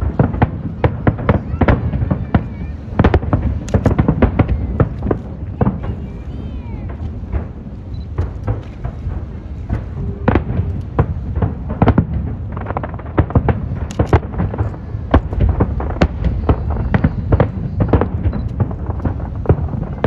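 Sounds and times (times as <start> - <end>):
fireworks bangs and booms: 0.0 - 20.0
low rumble: 0.0 - 20.0.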